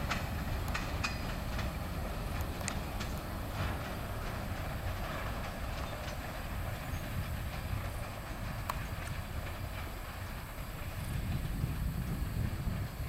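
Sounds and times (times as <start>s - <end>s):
clicks of train wheels: 0.0s - 13.0s
train wheels rumbling on rail: 0.0s - 13.0s.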